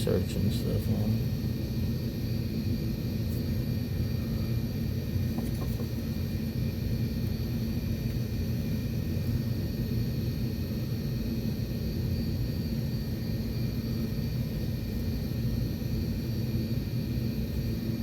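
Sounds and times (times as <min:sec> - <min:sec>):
machine rumble with high whines: 0:00.0 - 0:18.0.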